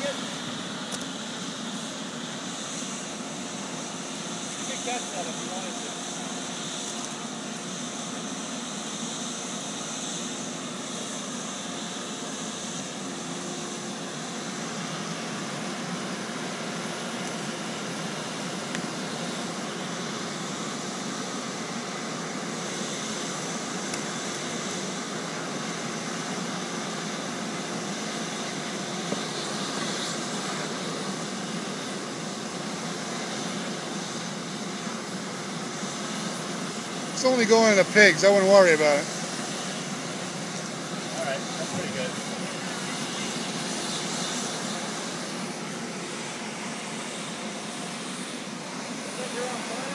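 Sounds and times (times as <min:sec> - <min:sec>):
furnace air blast rushing: 0:00.0 - 0:49.9.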